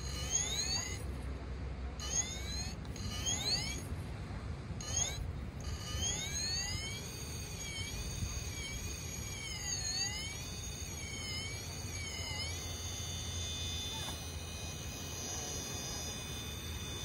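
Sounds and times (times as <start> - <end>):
electric motor whining: 0.0 - 1.3, 2.0 - 4.1, 4.8 - 17.0.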